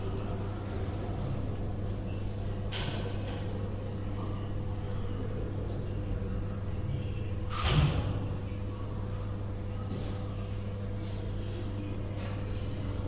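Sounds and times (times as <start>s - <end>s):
faint background activity: 0.0s - 13.0s
steady low hum: 0.0s - 13.0s.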